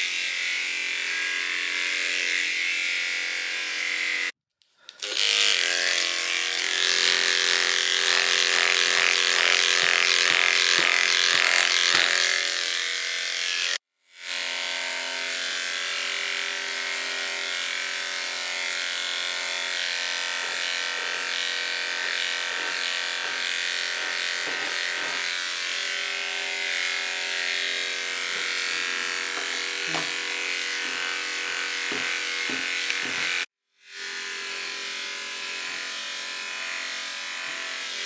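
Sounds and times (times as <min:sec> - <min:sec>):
electric clippers humming: 0:00.0 - 0:38.0.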